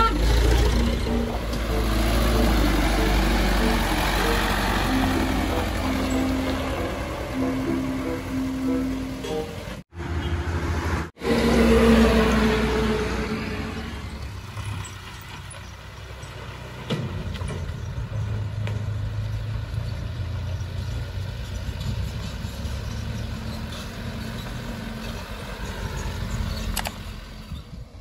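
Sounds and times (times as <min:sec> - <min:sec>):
diesel truck engines: 0:00.0 - 0:28.0.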